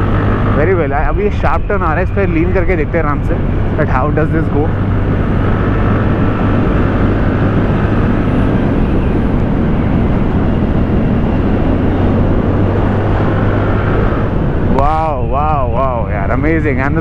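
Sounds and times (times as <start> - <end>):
scooter engine humming: 0.0 - 17.0
wind rushing over microphone: 0.0 - 17.0.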